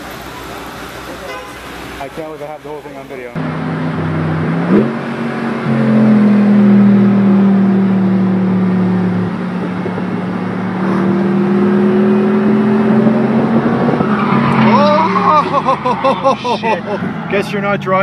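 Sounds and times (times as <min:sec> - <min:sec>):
car engine at high revs: 0:02.9 - 0:18.0.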